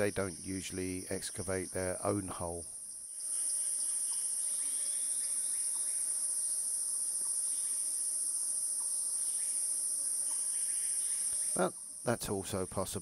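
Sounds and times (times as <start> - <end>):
high-pitched insect drone: 1.6 - 12.1.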